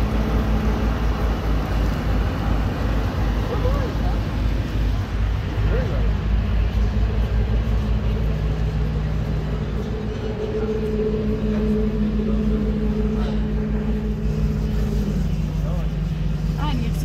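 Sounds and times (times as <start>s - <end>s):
ferry engine droning: 0.0s - 17.0s.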